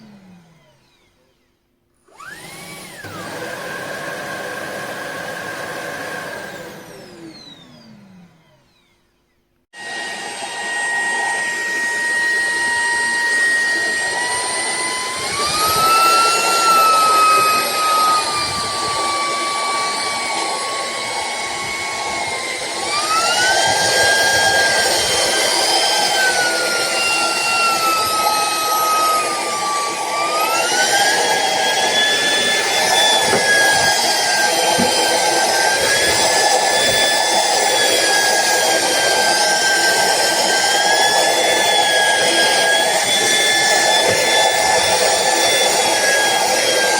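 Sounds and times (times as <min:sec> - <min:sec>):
stick vacuum running: 0:02.0 - 0:08.9, 0:09.8 - 0:46.9.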